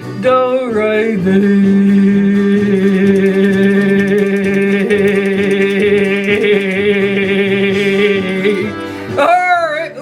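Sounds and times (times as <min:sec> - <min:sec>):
backing music: 0:00.0 - 0:10.0.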